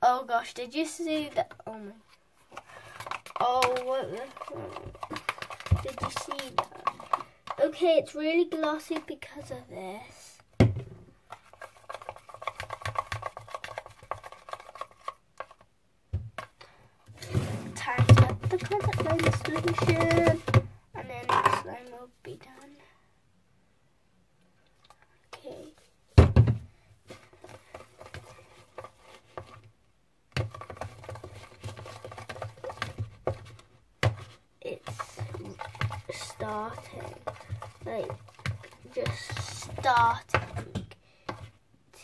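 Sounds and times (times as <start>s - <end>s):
stick stirring thick slime: 0.4s - 10.4s, 11.2s - 15.7s, 16.3s - 22.6s, 27.0s - 42.0s.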